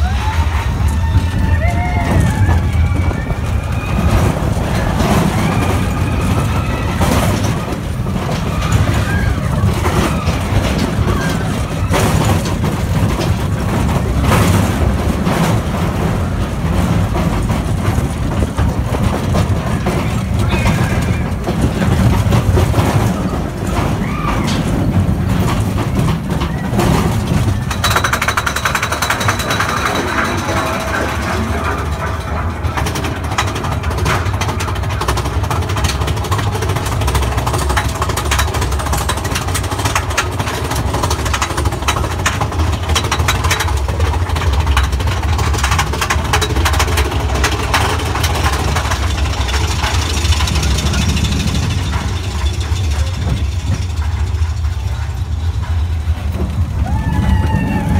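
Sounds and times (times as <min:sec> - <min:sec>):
lift hill chain clacking: 0:00.0 - 0:57.9
roller coaster rumbling on track: 0:00.0 - 0:57.9.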